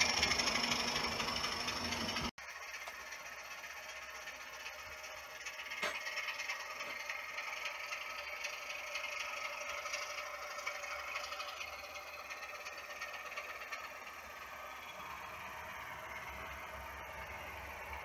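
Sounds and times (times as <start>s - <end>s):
model train engine sound: 0.0s - 18.0s
wheels rattling on track: 0.0s - 18.0s.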